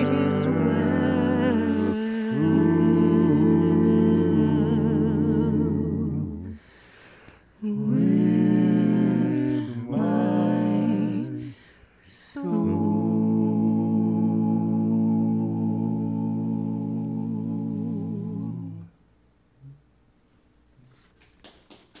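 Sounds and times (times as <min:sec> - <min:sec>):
vocal ensemble humming chords: 0:00.0 - 0:19.8.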